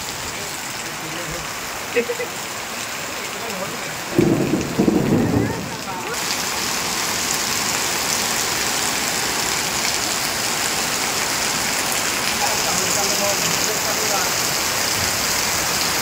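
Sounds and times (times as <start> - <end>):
heavy rain splashing on pavement: 0.0 - 16.0.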